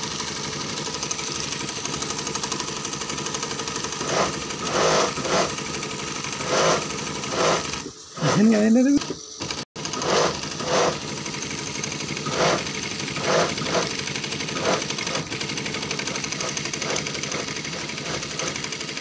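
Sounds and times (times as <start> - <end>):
sewing machine stitching fabric: 0.0 - 19.0.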